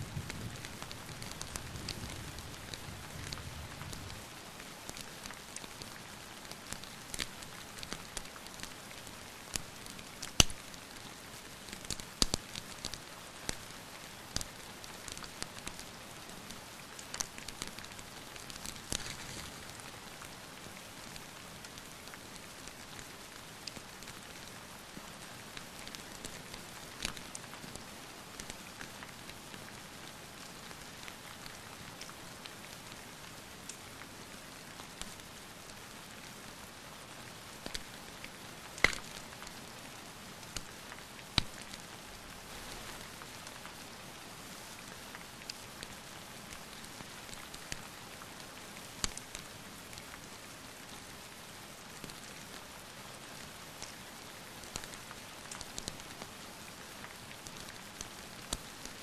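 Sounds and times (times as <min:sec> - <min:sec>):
wood fire popping and crackling: 0:00.0 - 0:32.2, 0:37.5 - 0:43.8, 0:44.7 - 0:48.2, 0:49.0 - 0:50.1, 0:53.8 - 0:59.0
rain hiss: 0:00.0 - 0:59.0.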